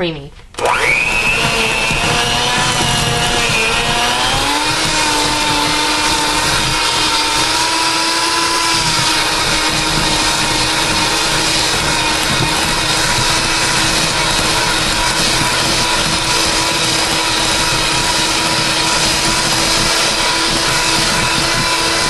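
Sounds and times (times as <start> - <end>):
electric hand mixer running: 0.6 - 22.0.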